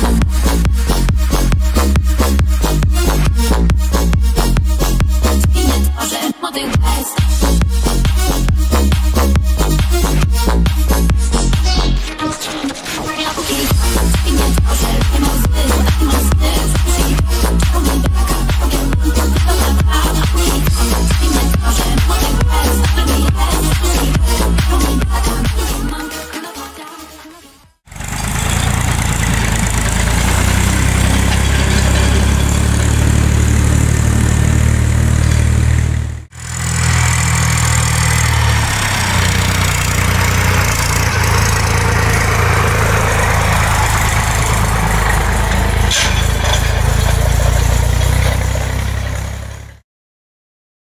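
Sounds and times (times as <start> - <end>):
tractor diesel engine under load: 0.0 - 6.0, 6.8 - 26.0, 27.8 - 49.8.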